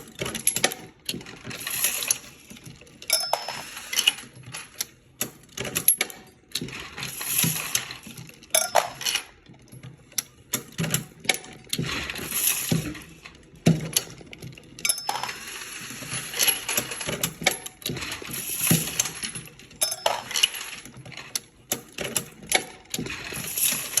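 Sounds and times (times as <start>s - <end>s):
reloading press clicks and clanks: 0.0s - 24.0s.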